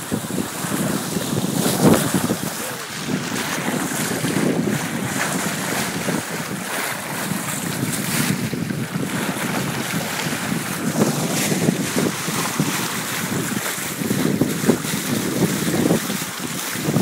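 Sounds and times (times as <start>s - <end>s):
water splashing along boat: 0.0s - 17.0s
wind buffeting microphone: 0.0s - 17.0s.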